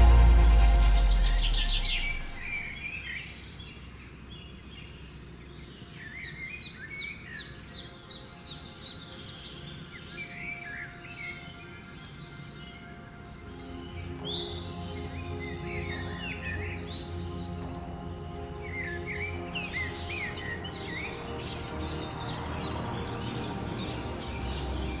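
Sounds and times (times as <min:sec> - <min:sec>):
background music: 0:00.0 - 0:04.0, 0:05.1 - 0:25.0.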